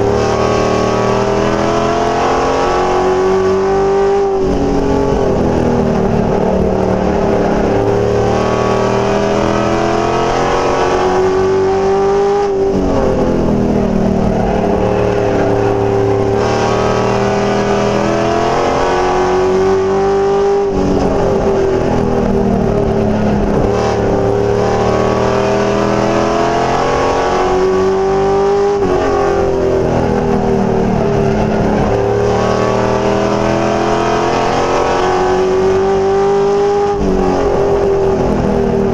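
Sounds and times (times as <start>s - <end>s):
race truck engine: 0.0s - 38.9s.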